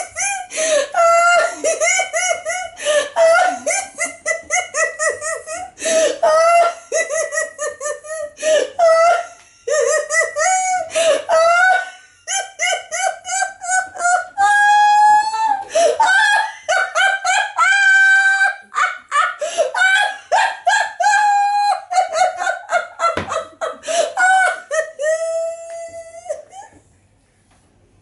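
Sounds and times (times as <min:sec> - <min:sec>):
woman laughing hysterically: 0:00.0 - 0:26.8.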